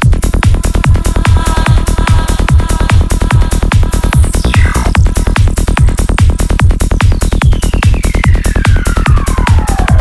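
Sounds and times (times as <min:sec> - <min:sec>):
electronic trance music: 0:00.0 - 0:10.0.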